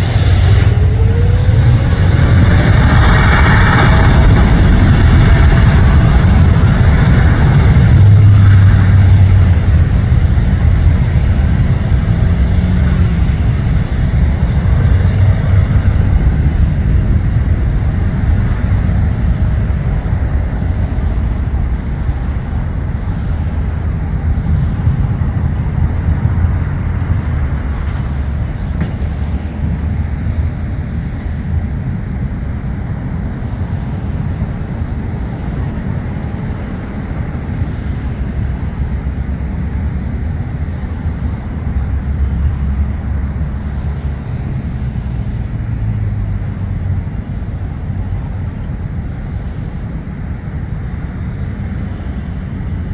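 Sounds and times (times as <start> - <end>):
jet engines deep rumble: 0.0 - 52.9.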